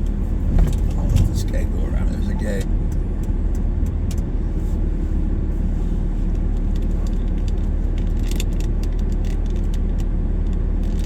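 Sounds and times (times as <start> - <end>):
vehicle rumble inside cabin: 0.0 - 11.0.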